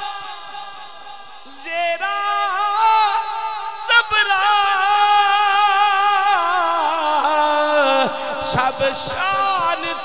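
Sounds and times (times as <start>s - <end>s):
man singing devotional verse: 0.0s - 10.0s.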